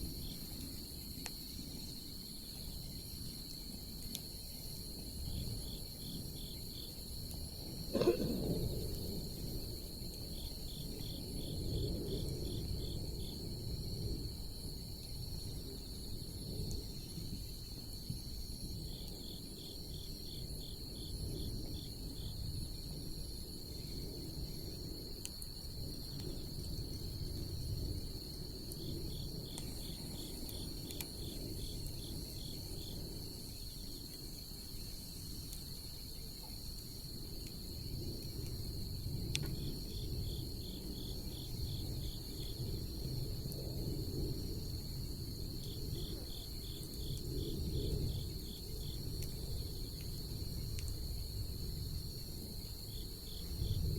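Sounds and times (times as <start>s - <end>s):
insect drone: 0.0s - 53.9s.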